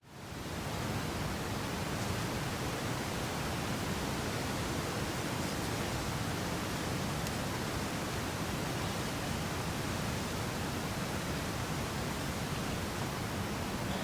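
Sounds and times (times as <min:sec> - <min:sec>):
wind through wheat field: 0:00.0 - 0:14.0.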